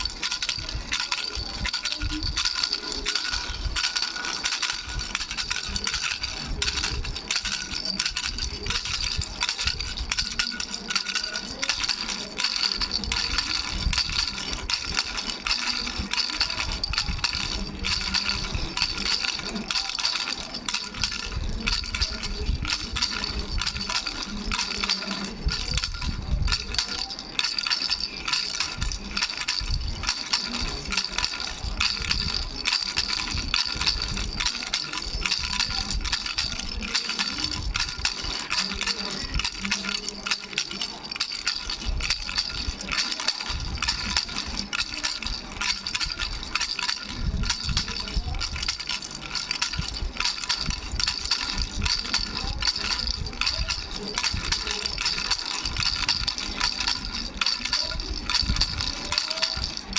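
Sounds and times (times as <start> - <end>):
baby's bell rattle shaken: 0.0 - 59.9.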